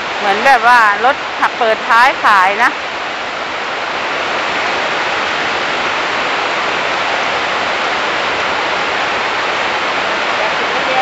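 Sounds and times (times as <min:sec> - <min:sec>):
heavy rain on a roof: 0:00.0 - 0:11.0.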